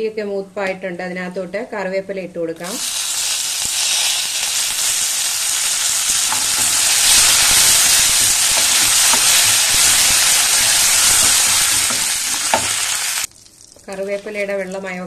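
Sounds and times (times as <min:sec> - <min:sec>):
leaves sizzling in hot oil: 0:02.6 - 0:15.0.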